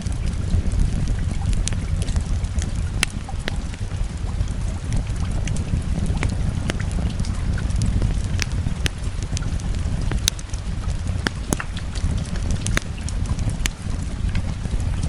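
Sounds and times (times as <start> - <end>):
rain rumbling: 0.0 - 15.0
wood fire crackling: 0.0 - 15.0.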